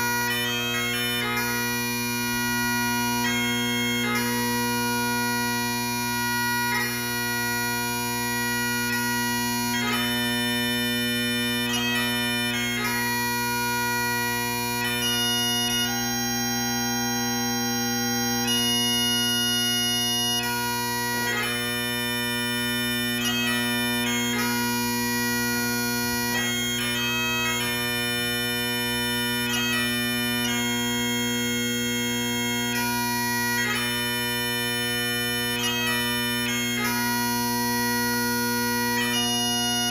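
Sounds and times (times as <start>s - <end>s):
bagpipes playing: 0.0s - 39.9s.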